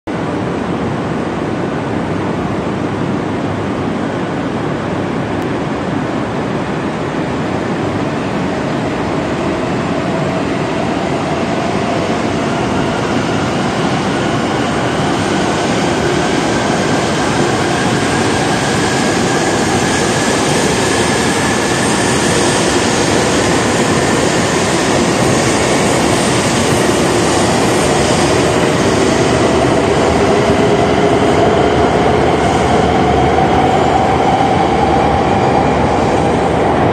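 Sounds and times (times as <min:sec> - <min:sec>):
rising train whine: 0:00.1 - 0:36.9
train running noise: 0:00.1 - 0:36.9.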